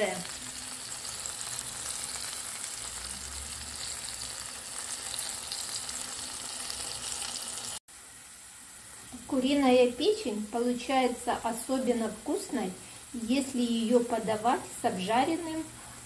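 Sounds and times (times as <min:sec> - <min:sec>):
chicken liver sizzling in oil: 0:00.0 - 0:16.0.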